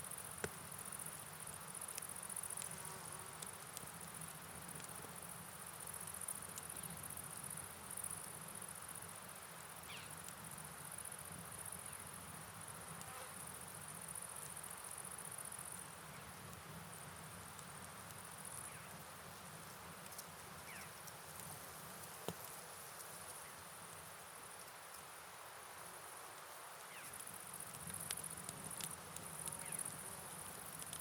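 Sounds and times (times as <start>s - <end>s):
faint drip-like ticks: 0.0s - 31.0s
insects chirring: 0.0s - 31.0s
rain: 0.0s - 31.0s.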